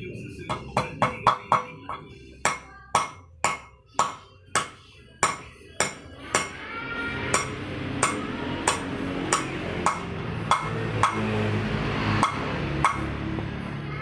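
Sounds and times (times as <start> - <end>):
hammer striking metal: 0.5 - 6.6, 7.3 - 11.5, 12.2 - 13.2.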